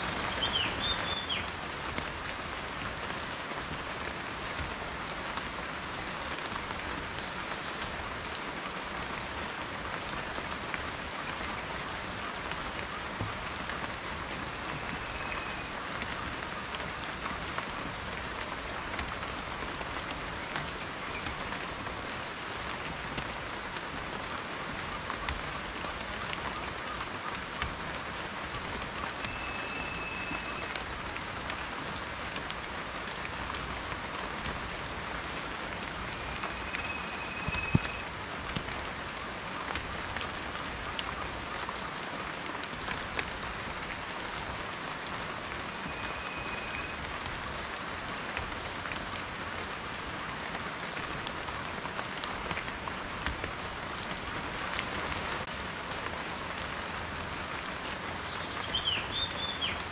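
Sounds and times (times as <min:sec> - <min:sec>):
rain hissing on a surface: 0:00.0 - 0:59.9.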